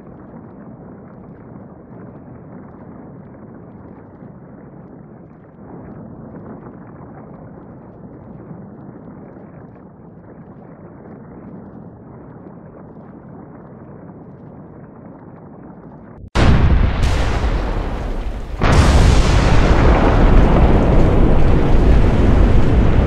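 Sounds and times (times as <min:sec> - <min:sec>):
faint crackles: 0:00.0 - 0:23.0
low volcano rumbling: 0:00.0 - 0:23.0.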